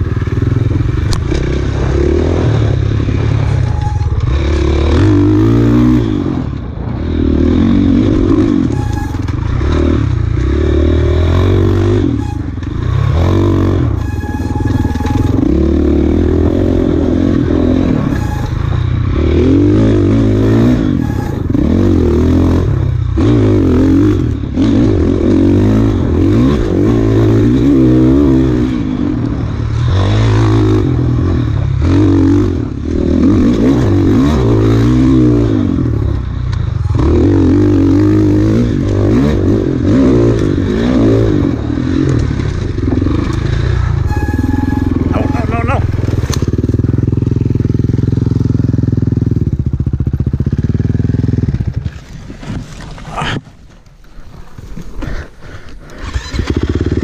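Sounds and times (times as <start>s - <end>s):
dirt bike engine revving: 0.0s - 52.0s, 55.1s - 57.0s.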